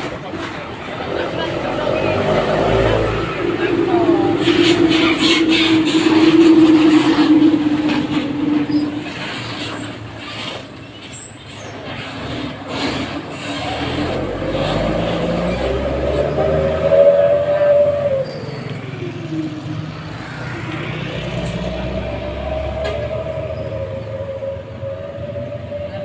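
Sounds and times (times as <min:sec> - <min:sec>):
truck engine rumbling: 0:00.0 - 0:26.0
rising engine whine: 0:00.9 - 0:10.7, 0:14.0 - 0:26.0.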